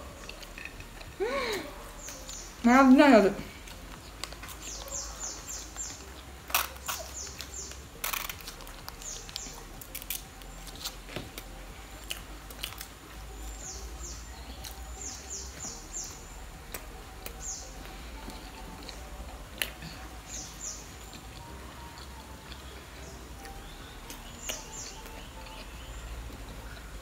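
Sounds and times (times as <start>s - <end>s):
chewing: 0.0s - 2.6s, 3.5s - 27.0s
small bird chirping: 0.0s - 11.1s, 11.7s - 27.0s.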